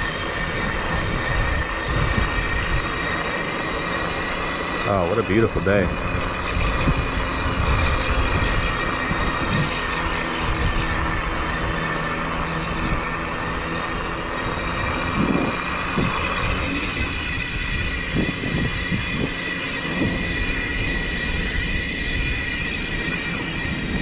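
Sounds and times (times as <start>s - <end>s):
electric bike motor whining: 0.0s - 24.0s
road noise: 0.0s - 24.0s.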